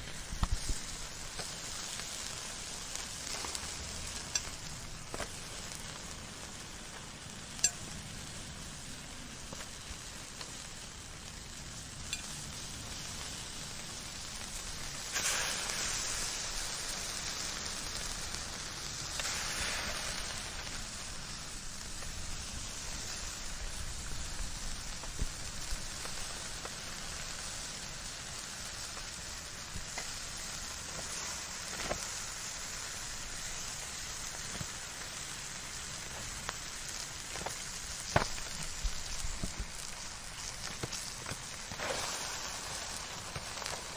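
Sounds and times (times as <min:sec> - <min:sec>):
fire burning with crackles: 0:00.0 - 0:43.9
rushing flame flare-ups: 0:00.0 - 0:43.9.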